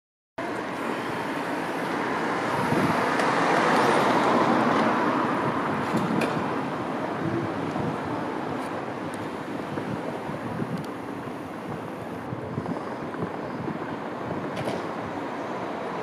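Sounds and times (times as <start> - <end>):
street traffic hiss: 0.4 - 16.0.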